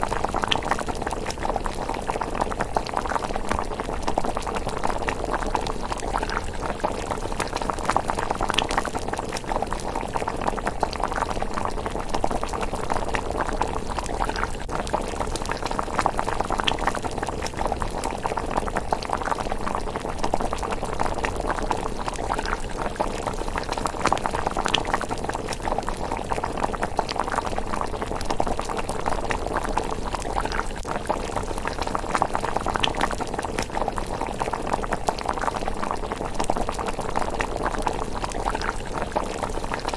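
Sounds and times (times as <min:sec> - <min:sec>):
porridge bubbling: 0:00.0 - 0:39.9.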